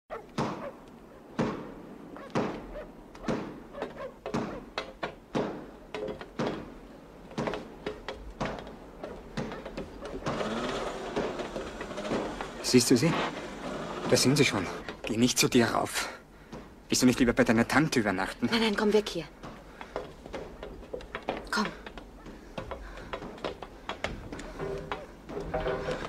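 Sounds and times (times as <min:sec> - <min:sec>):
footsteps on iron bridge: 0:01.3 - 0:26.0.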